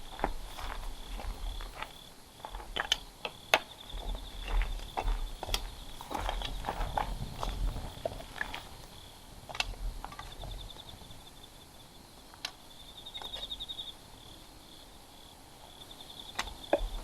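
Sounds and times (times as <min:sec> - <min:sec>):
insect trilling: 0:02.9 - 0:17.0.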